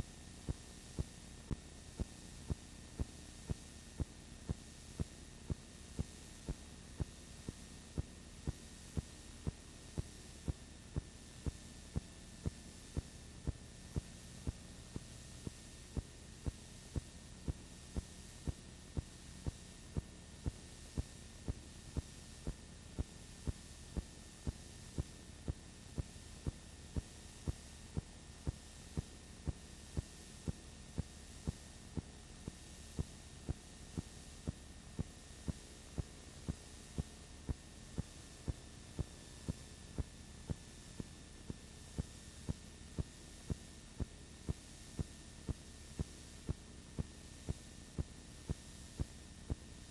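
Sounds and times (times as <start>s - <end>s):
low hum and hiss: 0.0s - 49.9s.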